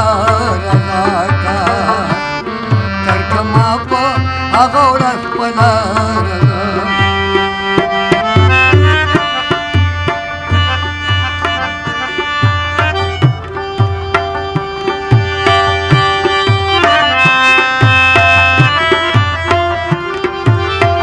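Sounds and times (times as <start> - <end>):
harmonium chords: 0.0 - 21.0
tabla rhythm: 0.0 - 21.0
rubab plucking: 0.3 - 21.0.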